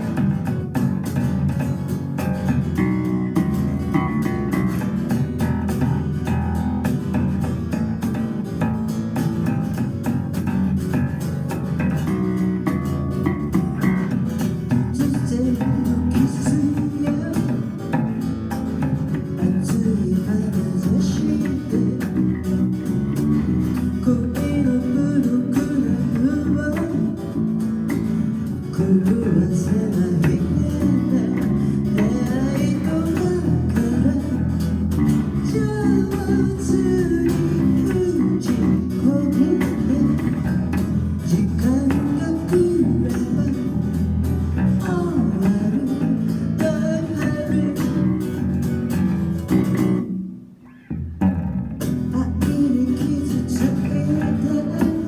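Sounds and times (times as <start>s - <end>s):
band playing instrumental pop: 0.0s - 50.0s.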